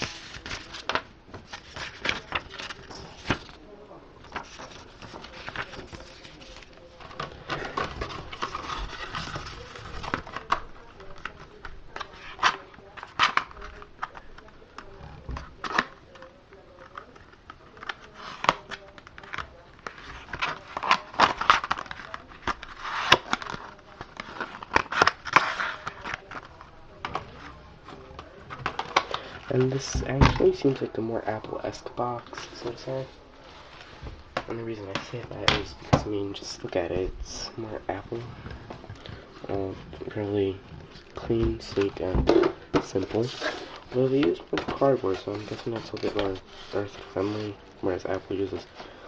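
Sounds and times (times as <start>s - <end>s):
cardboard and paper rustling: 0.0s - 49.0s.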